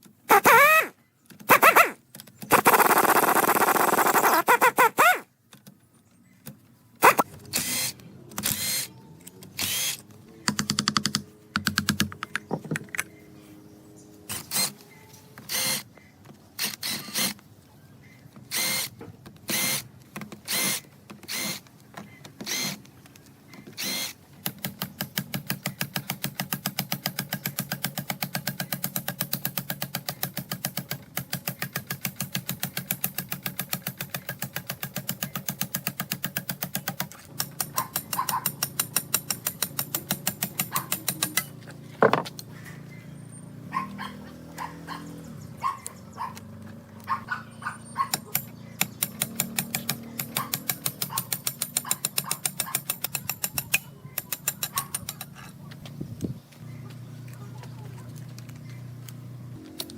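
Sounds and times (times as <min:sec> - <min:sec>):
power tool rattling: 0:00.0 - 0:05.7, 0:07.0 - 0:13.1, 0:14.3 - 0:14.8, 0:15.4 - 0:17.4, 0:18.3 - 0:42.8, 0:43.7 - 0:56.4.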